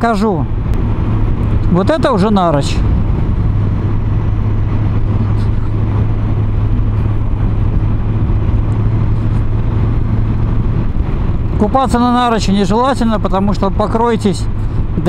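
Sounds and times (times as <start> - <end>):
motorcycle engine cruising: 0.0 - 15.0
wind and road noise: 0.0 - 15.0.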